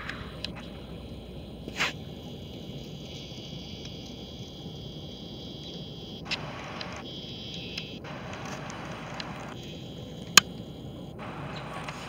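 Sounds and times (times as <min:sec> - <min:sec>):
train rumbling: 0:00.0 - 0:07.0, 0:08.0 - 0:12.0.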